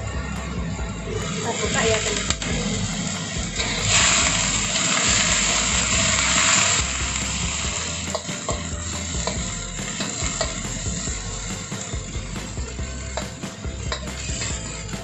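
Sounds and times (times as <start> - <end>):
spatula scraping a wok: 1.2 - 15.0
vegetables sizzling in a wok: 1.2 - 15.0.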